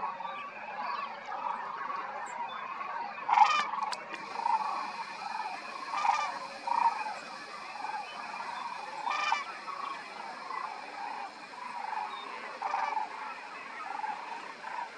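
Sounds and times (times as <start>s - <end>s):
flock of cranes calling: 0.0s - 14.9s.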